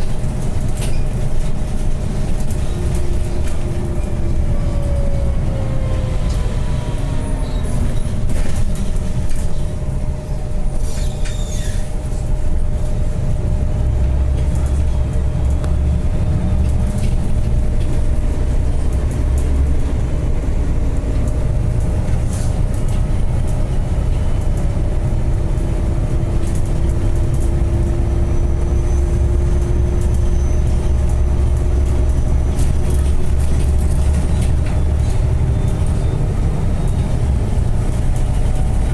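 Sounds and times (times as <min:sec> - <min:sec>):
bus rumbling inside cabin: 0:00.0 - 0:38.9.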